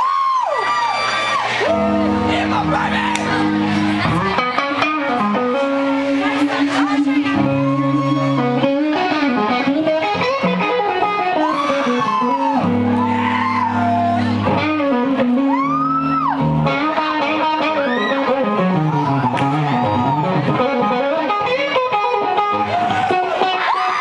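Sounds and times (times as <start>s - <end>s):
amplified electric guitars playing: 1.4s - 24.0s.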